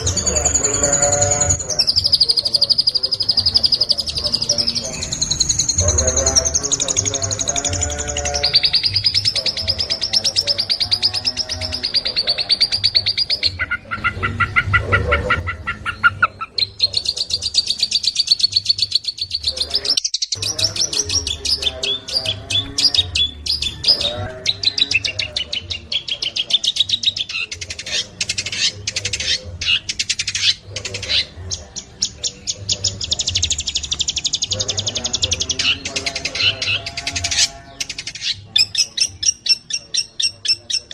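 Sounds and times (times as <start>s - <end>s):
shrike chattering and trilling song: 0.0s - 40.9s.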